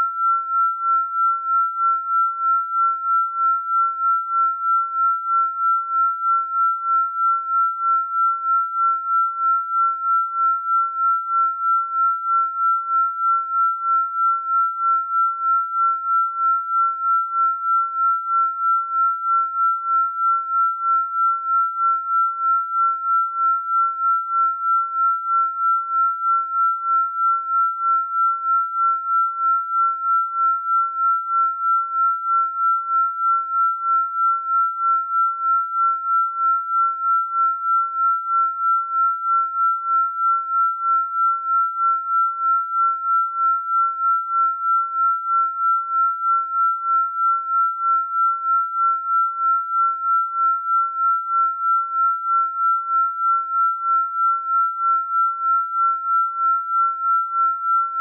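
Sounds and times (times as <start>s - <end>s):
pulsing high-pitched sine tone: 0.0s - 58.0s.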